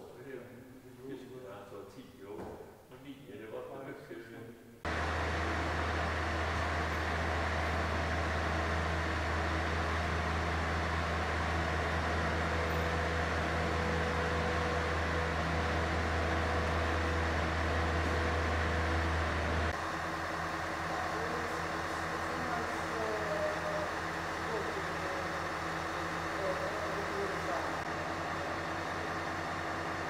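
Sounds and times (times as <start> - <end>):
large vehicle engine humming: 4.9 - 30.0.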